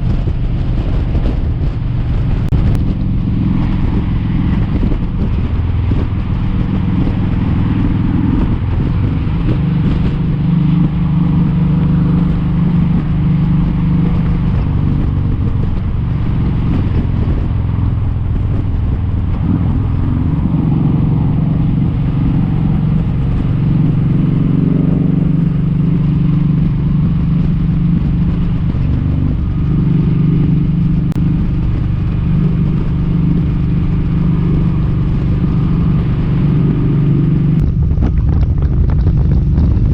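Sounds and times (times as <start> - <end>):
motorcycle engine at speed: 0.0 - 39.9
road and wind noise: 0.0 - 39.9.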